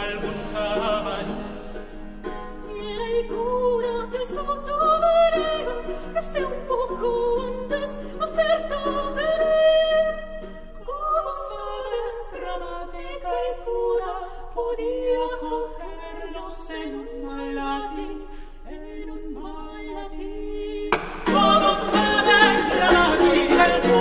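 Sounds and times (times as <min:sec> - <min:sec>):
tenor singing with vibrato: 0:00.0 - 0:02.0, 0:02.6 - 0:24.0.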